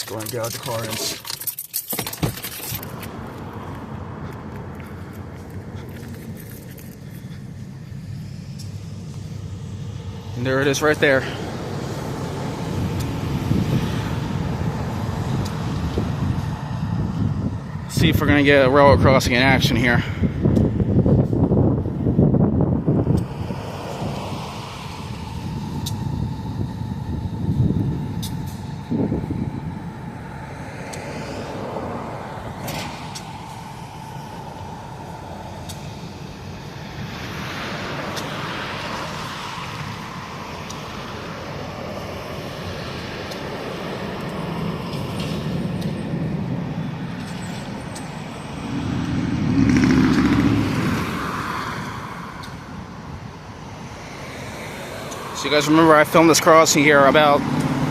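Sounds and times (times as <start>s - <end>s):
road traffic passing: 0.0s - 57.9s
loud vehicle passing by: 2.8s - 57.9s.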